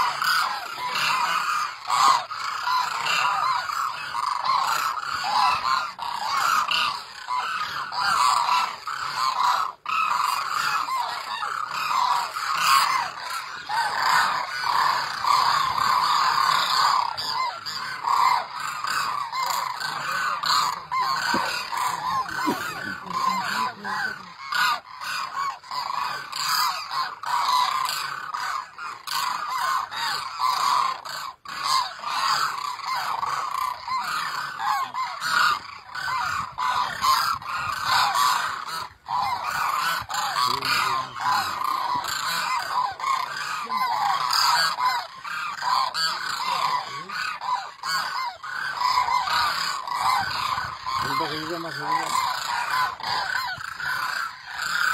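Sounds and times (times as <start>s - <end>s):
flock of cranes honking: 0.0s - 54.9s.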